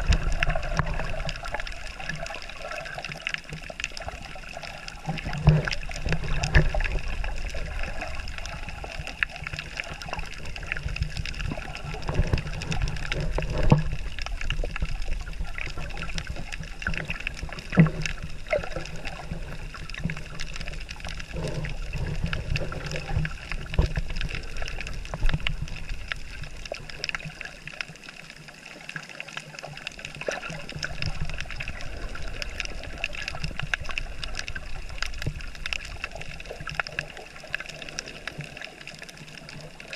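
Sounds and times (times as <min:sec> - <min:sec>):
clicks and crackles: 0:00.0 - 0:39.9
underwater rumble of moving water: 0:00.0 - 0:39.9.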